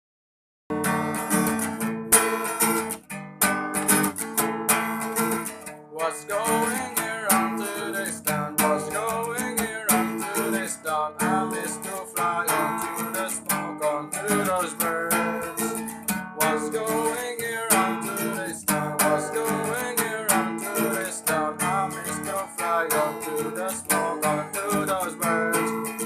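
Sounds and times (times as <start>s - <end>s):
sliding guitar melody: 0.7s - 26.0s
strummed acoustic guitar: 0.7s - 26.0s.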